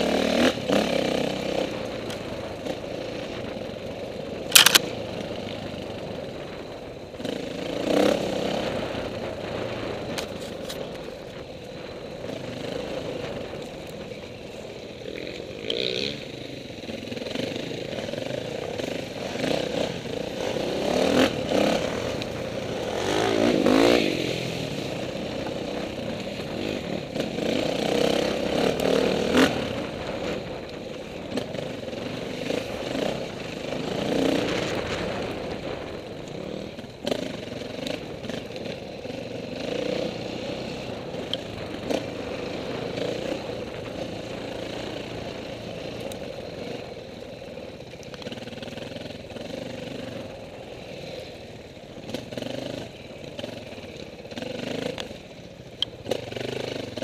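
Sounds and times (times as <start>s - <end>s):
dirt bike engine revving: 0.0s - 10.4s, 11.8s - 55.3s, 56.0s - 57.0s.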